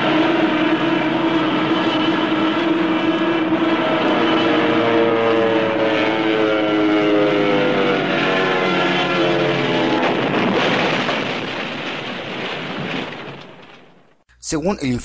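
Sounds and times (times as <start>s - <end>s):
propeller plane engine droning: 0.0s - 13.3s.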